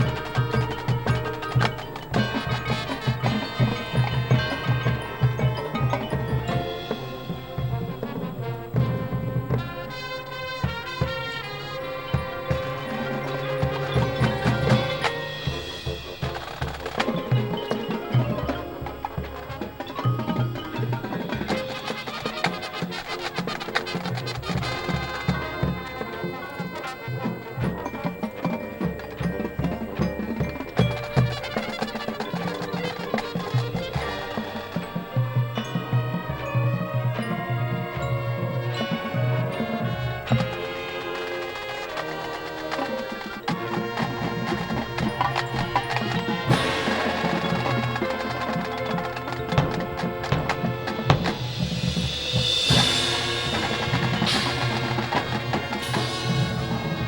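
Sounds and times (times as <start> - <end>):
drums and percussion striking: 0.0 - 57.0
marching band playing: 0.0 - 57.0.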